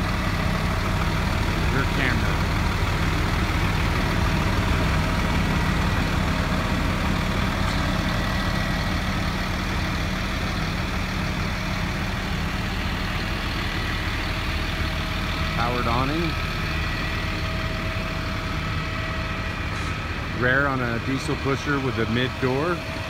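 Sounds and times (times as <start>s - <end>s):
large engine idling: 0.0s - 23.0s.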